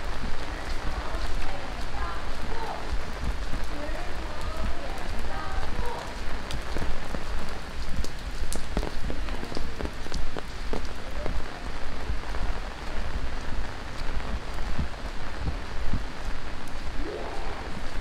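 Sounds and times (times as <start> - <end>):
heavy rain falling: 0.0 - 18.0
sharp raindrops striking nearby: 0.0 - 18.0.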